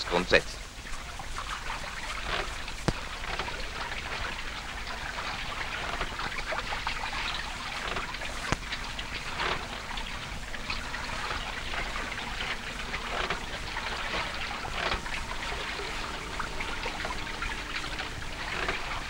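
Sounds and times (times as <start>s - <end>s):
sea water splashing and lapping: 0.0s - 19.0s.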